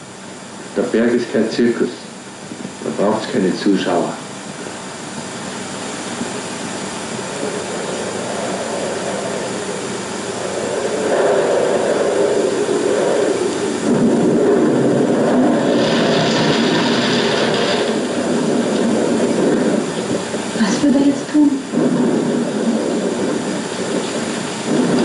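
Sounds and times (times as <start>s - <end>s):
storm wind rushing: 0.0s - 25.0s.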